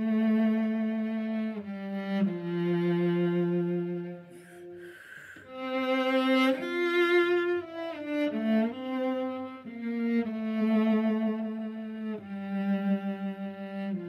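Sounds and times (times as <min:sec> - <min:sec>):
bowed cello melody: 0:00.0 - 0:14.0.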